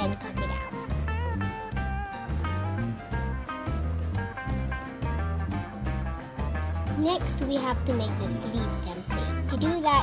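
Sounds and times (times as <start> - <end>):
guitar: 0.0 - 10.0
rhythmic bass line: 0.0 - 10.0.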